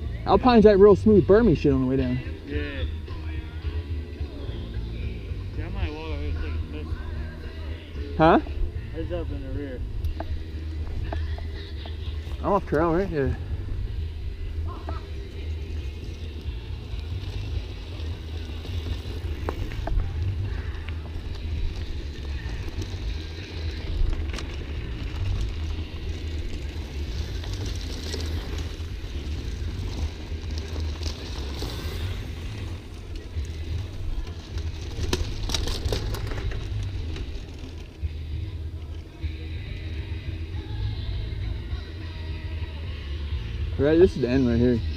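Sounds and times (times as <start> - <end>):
bike rattling: 0.0 - 44.9.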